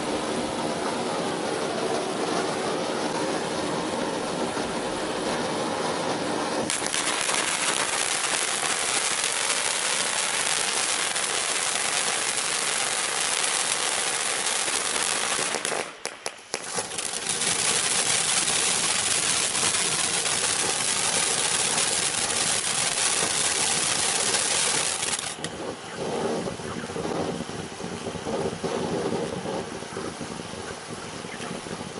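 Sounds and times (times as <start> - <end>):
crackling of sparks: 0.0 - 31.9
firework fountain hissing: 0.0 - 31.9.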